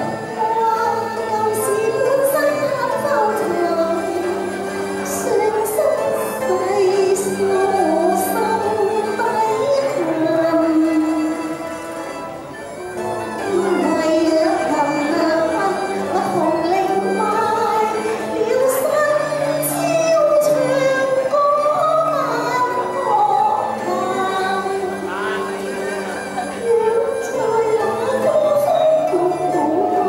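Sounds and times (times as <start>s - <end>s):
instrumental backing music: 0.0s - 30.0s
woman singing through a microphone: 0.0s - 30.0s.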